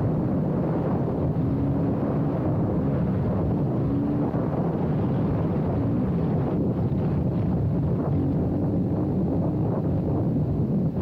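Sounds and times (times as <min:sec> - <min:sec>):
quad engine running at speed: 0:00.0 - 0:11.0
wind buffeting microphone: 0:00.0 - 0:11.0.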